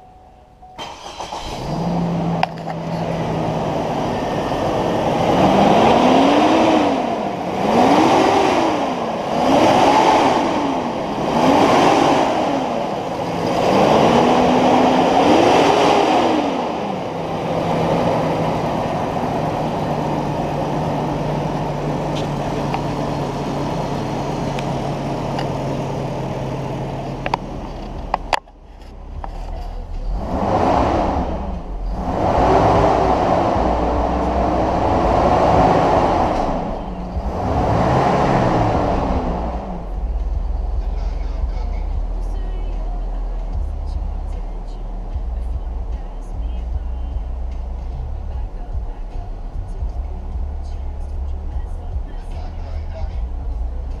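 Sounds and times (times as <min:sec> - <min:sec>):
car engine starting and revving: 0:00.7 - 0:54.0.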